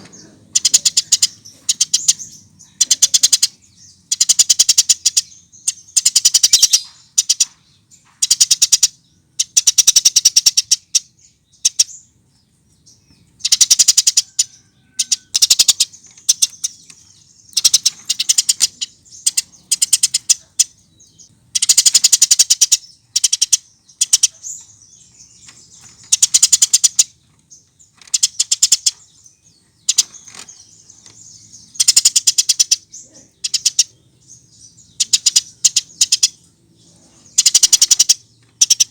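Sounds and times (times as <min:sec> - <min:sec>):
sparrow chattering chirps: 0:00.0 - 0:38.9.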